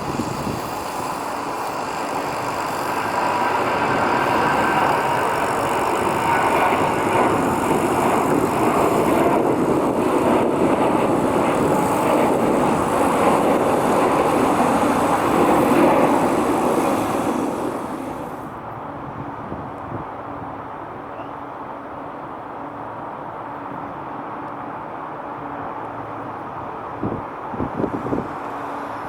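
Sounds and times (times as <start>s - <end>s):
jet airliner engine noise: 0.0s - 29.0s.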